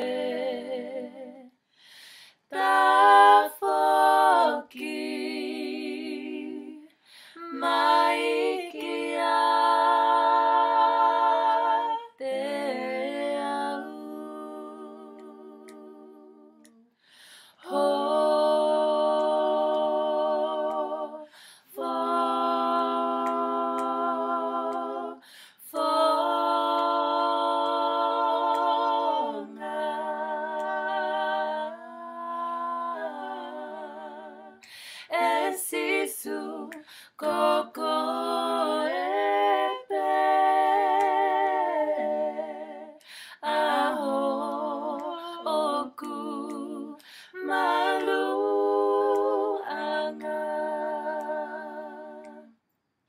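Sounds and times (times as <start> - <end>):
women singing a cappella hymn: 0.0 - 52.6.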